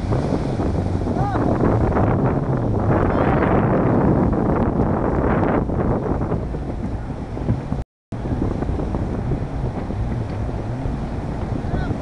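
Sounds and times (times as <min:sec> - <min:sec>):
hull churning through water: 0:00.0 - 0:12.0
jet ski engine running: 0:00.0 - 0:12.0
wind buffeting microphone: 0:00.0 - 0:12.0.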